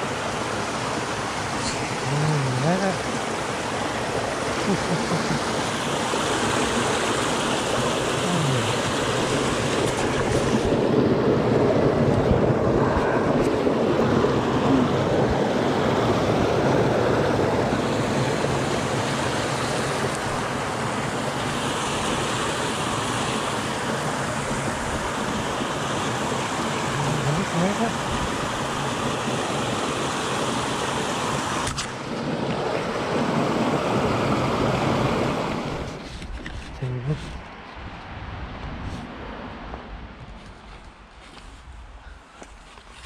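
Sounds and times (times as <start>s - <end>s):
stream water rushing: 0.0s - 41.4s.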